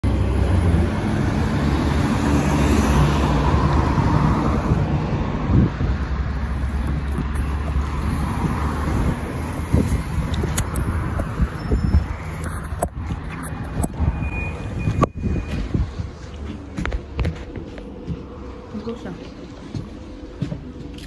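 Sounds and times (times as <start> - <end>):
trolleybus running rumble: 0.0 - 21.0.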